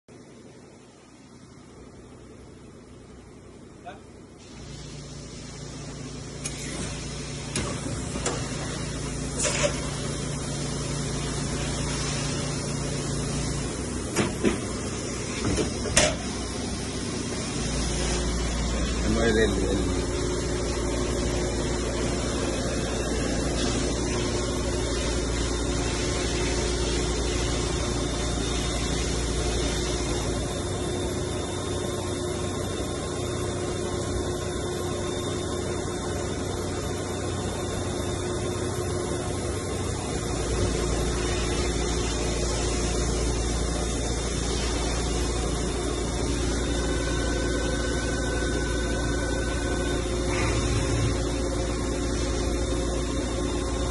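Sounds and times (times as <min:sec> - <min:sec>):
machine humming: 0:04.4 - 0:53.9.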